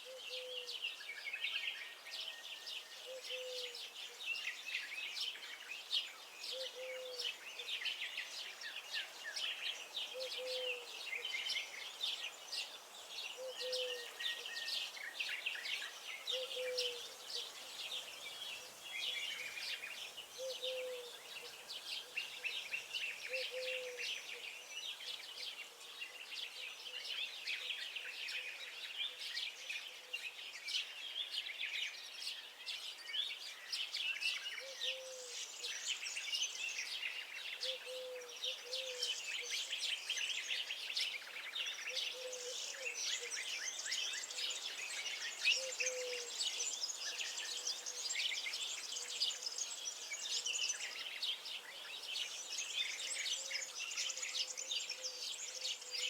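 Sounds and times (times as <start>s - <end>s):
songbirds chorus: 0.0s - 56.0s.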